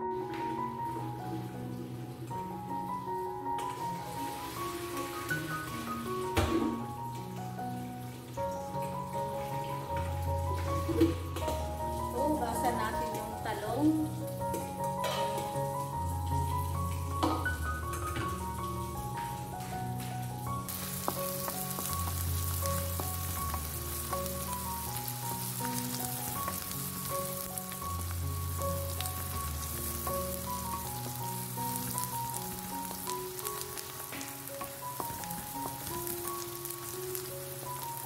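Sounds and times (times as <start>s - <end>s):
background music: 0.0s - 38.0s
onions sizzling in hot oil: 0.2s - 38.0s.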